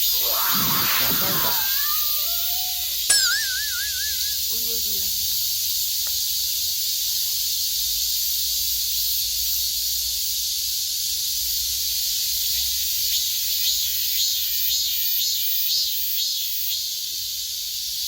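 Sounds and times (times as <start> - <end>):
cicadas buzzing chorus: 0.0 - 18.0
pulsing rhythmic insect call: 0.0 - 18.0.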